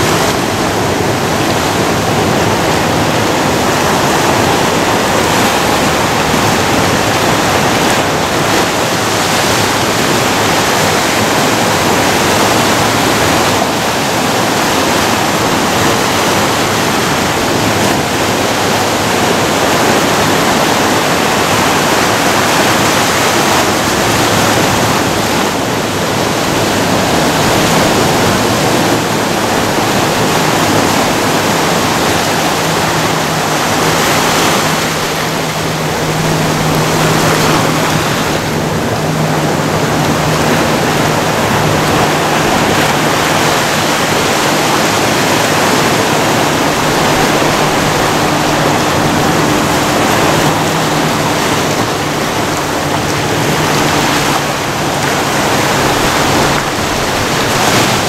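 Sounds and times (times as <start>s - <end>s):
ocean surf on rocky shore: 0.0s - 58.0s.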